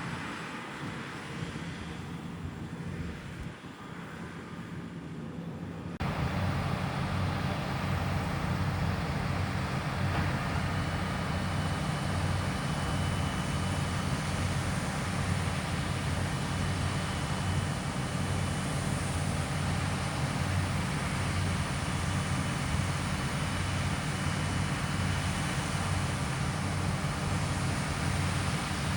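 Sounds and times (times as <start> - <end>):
combine harvester engine drone: 0.0 - 28.9.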